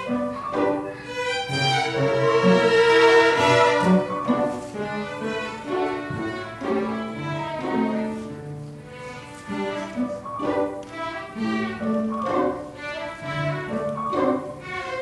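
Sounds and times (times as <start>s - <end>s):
orchestra of bowed strings: 0.0s - 15.0s.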